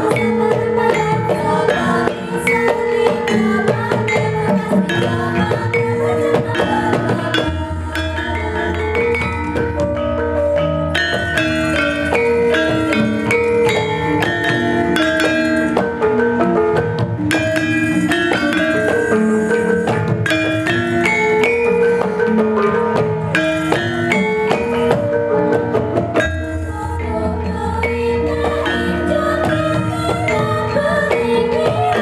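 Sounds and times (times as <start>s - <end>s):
hand drums: 0.0s - 32.0s
metallophones struck with mallets: 0.0s - 32.0s.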